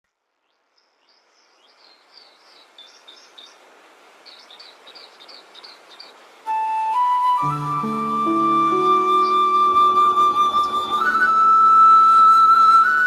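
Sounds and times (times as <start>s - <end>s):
soft outdoor hiss: 0.0s - 13.0s
birds chirping: 0.4s - 6.4s, 7.6s - 12.9s.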